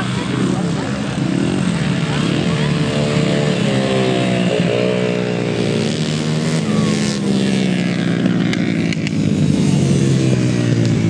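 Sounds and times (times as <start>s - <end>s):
motorcycle engines racing: 0.0s - 11.0s.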